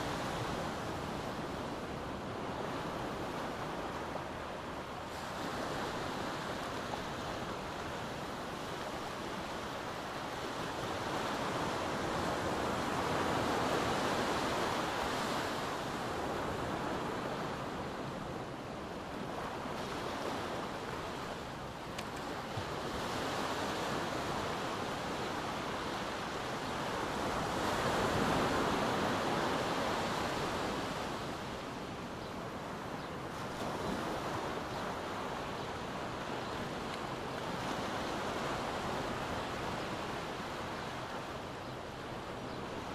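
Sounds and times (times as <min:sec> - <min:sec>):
small waves breaking on beach: 0:00.0 - 0:42.9.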